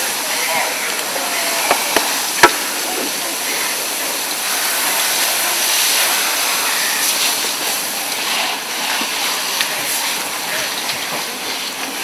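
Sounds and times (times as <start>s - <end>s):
fire hose spraying water: 0.0s - 12.0s.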